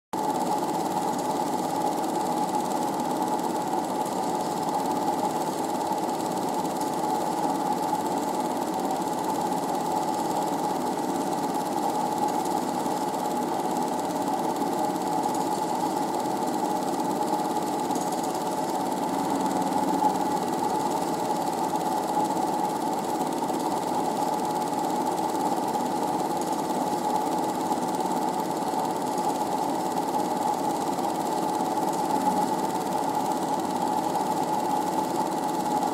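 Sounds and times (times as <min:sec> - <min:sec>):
film projector whirring: 0:00.2 - 0:35.9.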